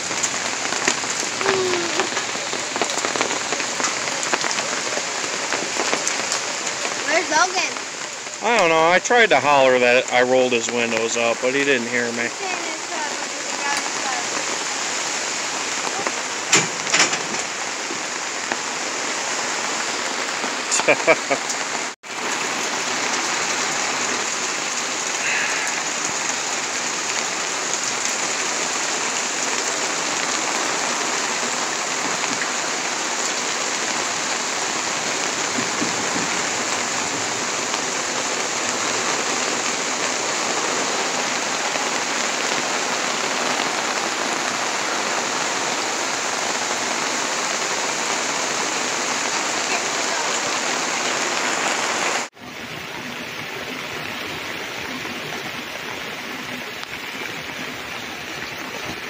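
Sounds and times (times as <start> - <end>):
heavy rain falling on awning: 0.0 - 59.0.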